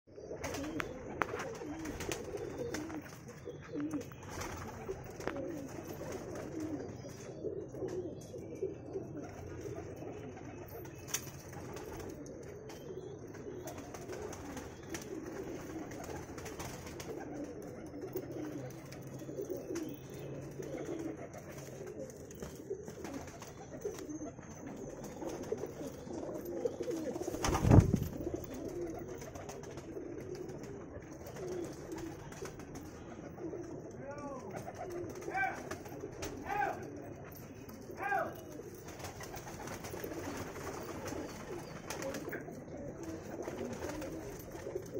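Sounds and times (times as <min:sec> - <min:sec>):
pigeons cooing: 0:00.1 - 0:44.9.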